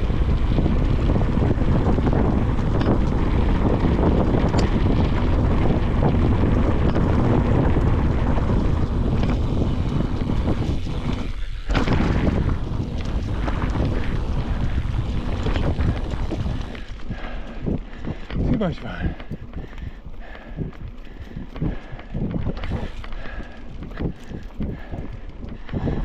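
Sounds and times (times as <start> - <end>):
bike rattling over rocky trail: 0.0 - 26.0
wind buffeting microphone: 0.0 - 26.0.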